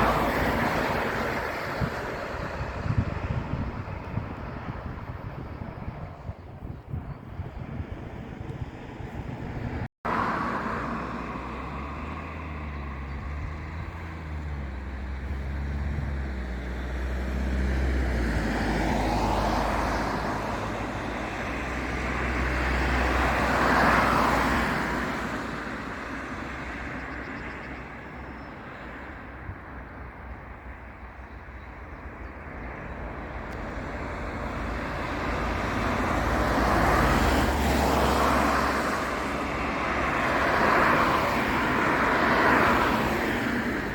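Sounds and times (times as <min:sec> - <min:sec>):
engine droning: 0:00.0 - 0:27.2, 0:30.2 - 0:43.9
vehicles passing: 0:00.0 - 0:43.9.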